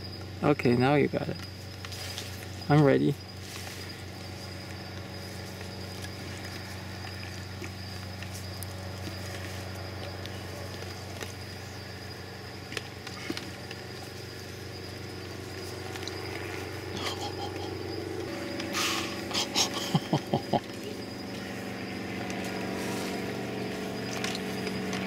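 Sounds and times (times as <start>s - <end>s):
insect trill: 0.0s - 25.0s
machine motor humming: 4.2s - 25.0s.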